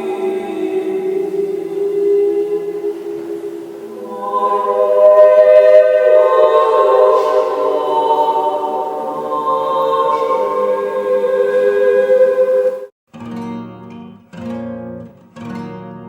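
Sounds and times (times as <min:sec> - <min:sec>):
choir singing unaccompanied: 0:00.0 - 0:12.9.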